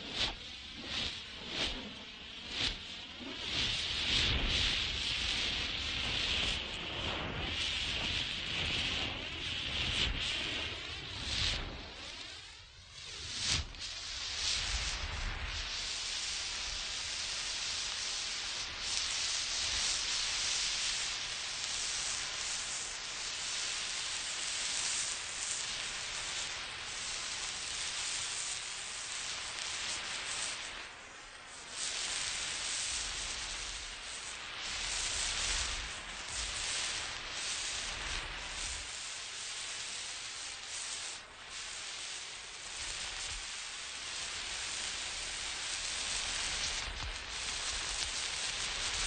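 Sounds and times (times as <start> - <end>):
burning flare fizzing hiss: 0.0 - 49.0.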